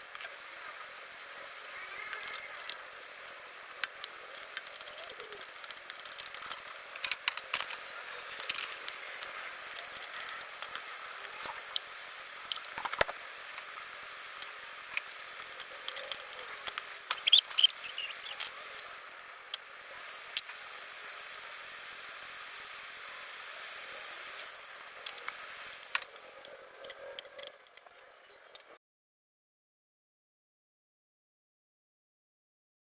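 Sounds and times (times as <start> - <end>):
chicken sizzling in a frying pan: 0.0 - 27.5.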